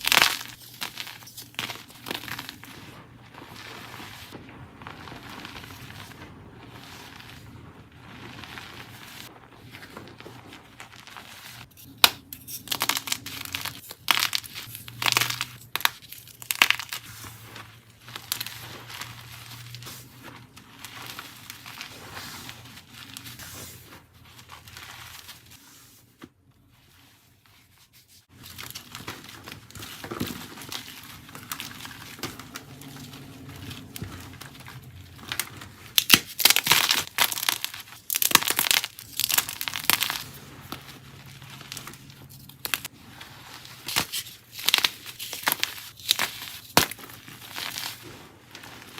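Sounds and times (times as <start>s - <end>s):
chalk blocks crunching and cracking: 0.0s - 25.6s, 28.2s - 48.9s.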